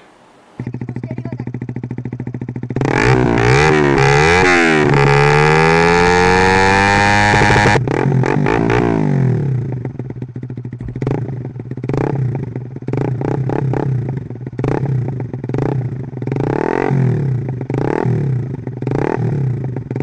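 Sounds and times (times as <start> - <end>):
motorcycle engine revving: 0.6 - 20.0.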